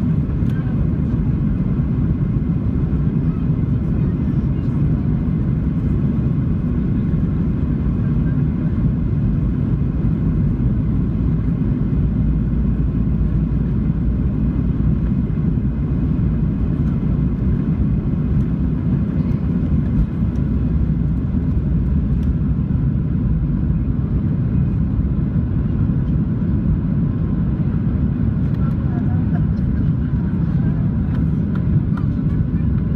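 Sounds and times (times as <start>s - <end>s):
aircraft cabin engine rumble: 0.0s - 32.9s
airflow over fuselage: 0.0s - 32.9s.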